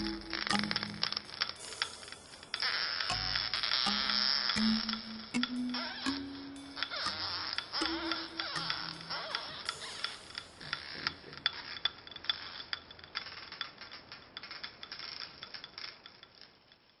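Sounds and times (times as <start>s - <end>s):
sharp clicking and ticking: 0.0s - 17.0s.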